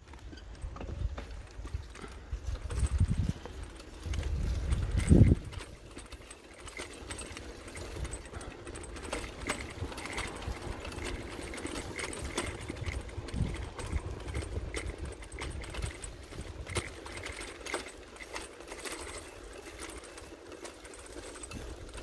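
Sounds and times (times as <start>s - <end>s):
bicycle ticking and rattling: 0.0s - 22.0s
bicycle tyre rumble: 0.0s - 22.0s.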